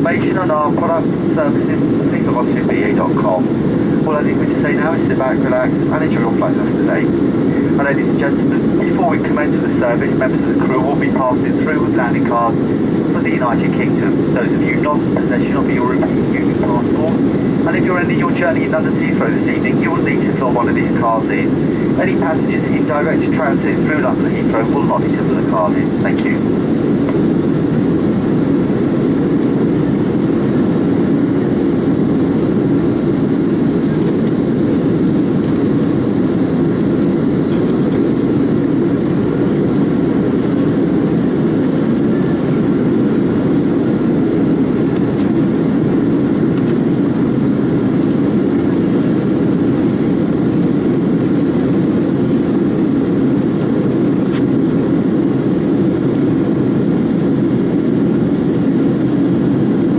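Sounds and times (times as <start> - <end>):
jet engines: 0.0 - 59.9
rushing airflow: 0.0 - 59.9.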